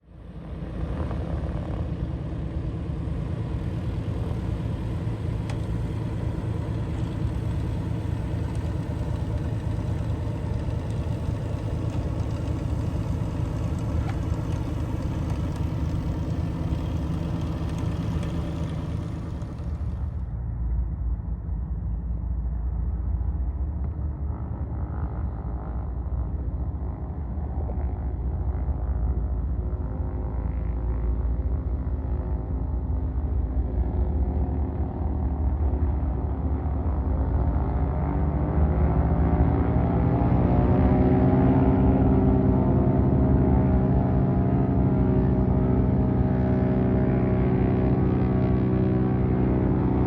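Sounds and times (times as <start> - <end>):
propeller plane engines running: 0.0 - 50.0.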